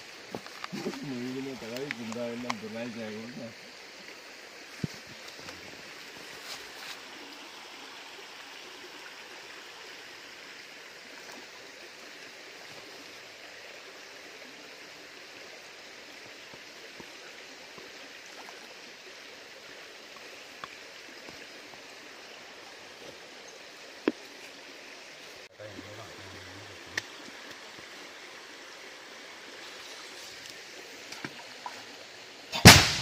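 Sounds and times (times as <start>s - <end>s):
river flowing: 0.0s - 33.0s.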